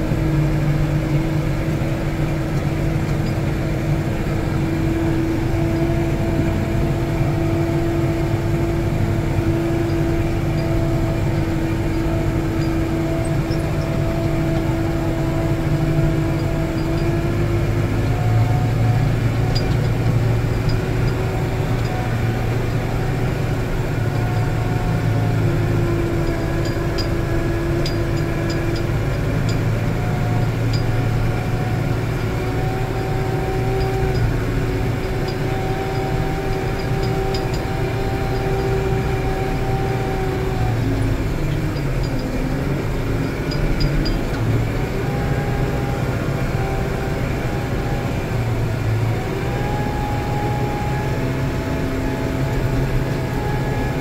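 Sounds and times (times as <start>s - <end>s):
engine whine: 0.0s - 54.0s
tractor diesel engine running: 0.0s - 54.0s.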